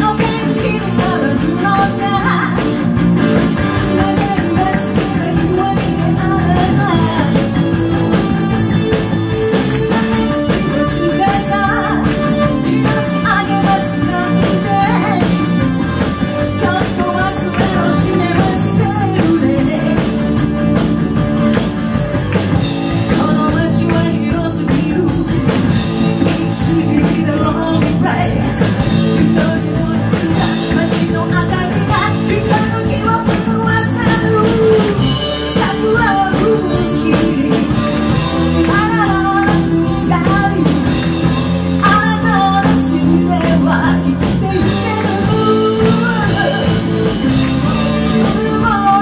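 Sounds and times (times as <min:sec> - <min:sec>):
live rock band playing: 0:00.0 - 0:49.0
woman singing lead: 0:00.0 - 0:49.0.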